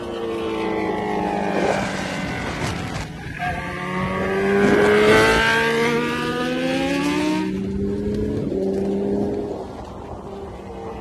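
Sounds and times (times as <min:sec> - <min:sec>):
motorcycle engine accelerating: 0:00.0 - 0:09.8.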